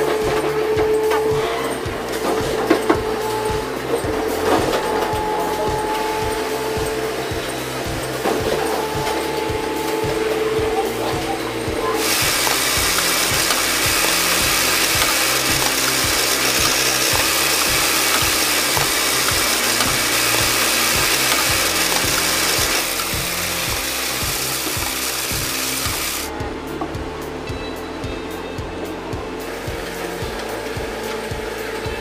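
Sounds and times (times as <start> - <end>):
background music with fast bass: 0.0 - 32.0.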